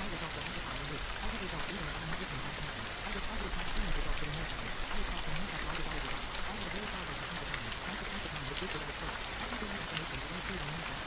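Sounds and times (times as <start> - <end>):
faint voice speaking: 0.0 - 11.0
gentle rain: 0.0 - 11.0
rain drop ticks: 0.0 - 11.0.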